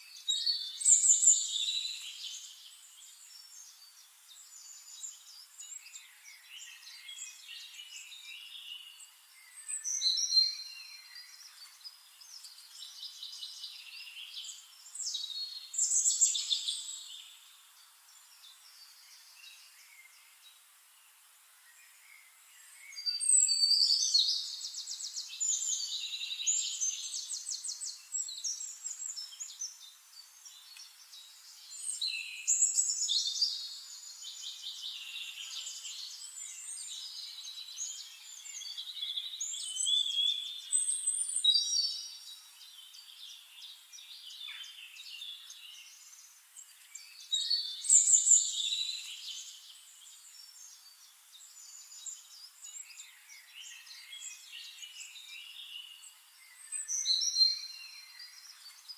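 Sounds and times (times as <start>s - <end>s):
wild birds chirping and trilling: 0.0s - 58.9s.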